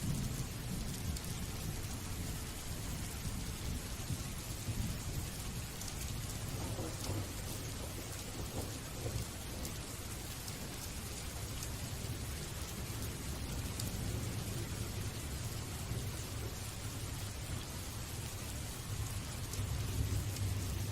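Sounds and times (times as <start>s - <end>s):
steady rain hiss: 0.0s - 20.9s.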